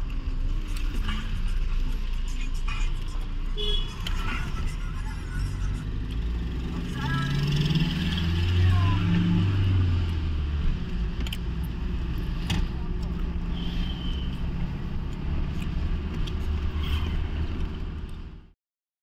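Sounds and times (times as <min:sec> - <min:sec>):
vehicle engine and road noise: 0:00.0 - 0:18.6.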